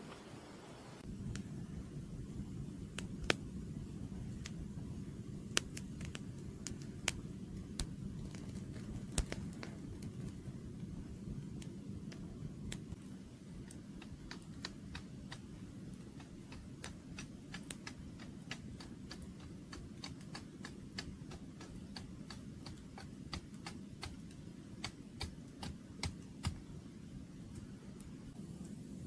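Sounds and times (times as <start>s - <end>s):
campfire crackling: 0.0s - 29.0s
low steady rush: 0.0s - 29.0s.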